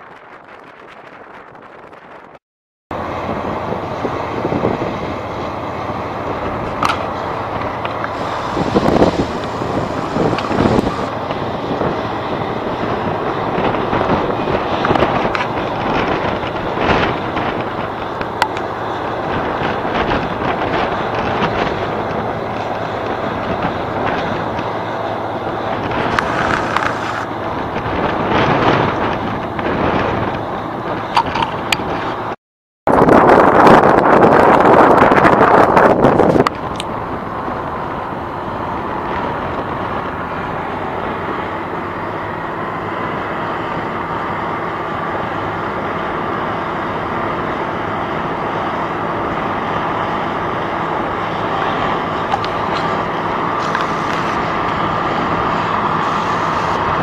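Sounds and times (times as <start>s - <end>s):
diesel engines running hard: 2.9s - 57.0s.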